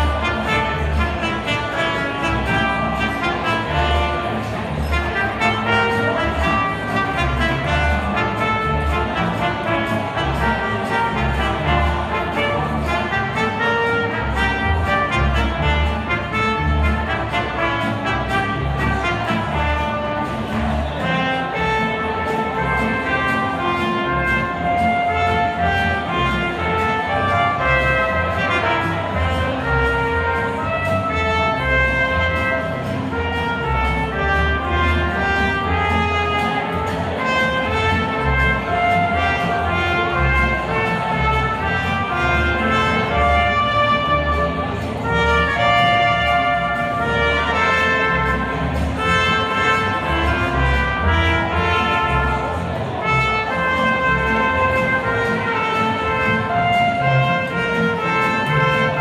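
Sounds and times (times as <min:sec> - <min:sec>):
strummed acoustic guitars: 0:00.0 - 0:59.0
trumpets playing melody: 0:00.0 - 0:59.0.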